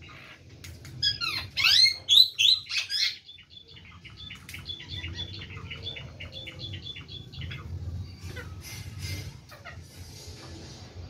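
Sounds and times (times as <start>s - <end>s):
parakeets chirping: 0.0s - 10.2s.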